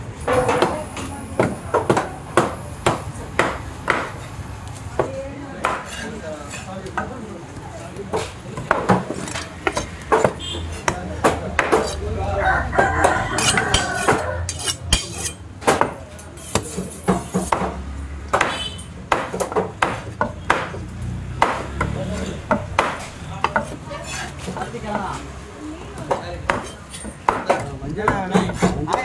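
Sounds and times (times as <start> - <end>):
murmur of voices: 0.0 - 29.0
knife chopping fish on wood: 1.4 - 4.2, 5.0 - 7.2, 8.1 - 12.0, 12.8 - 25.2, 26.0 - 29.0.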